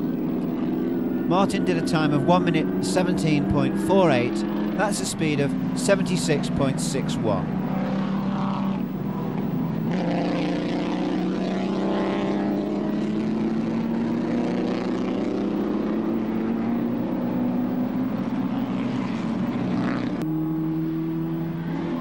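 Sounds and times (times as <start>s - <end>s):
racing car engine running hard: 0.0s - 22.0s.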